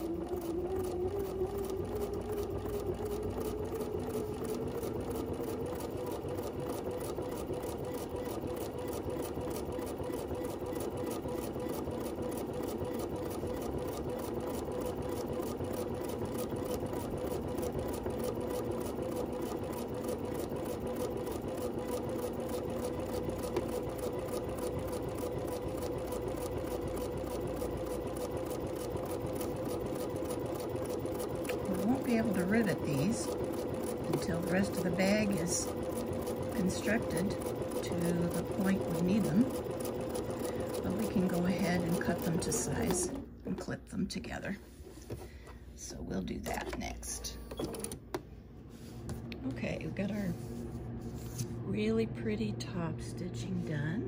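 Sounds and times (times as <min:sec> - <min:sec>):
sewing machine whirring: 0:00.0 - 0:43.7, 0:46.4 - 0:48.2.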